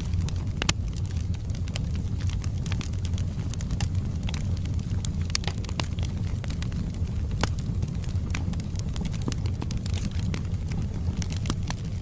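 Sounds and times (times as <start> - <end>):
fire burning with crackles: 0.0 - 12.0
logs crackling and popping: 0.0 - 12.0.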